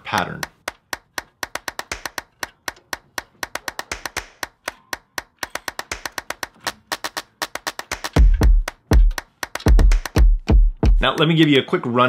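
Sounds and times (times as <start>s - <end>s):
socket ratchet clicking: 0.0s - 10.2s.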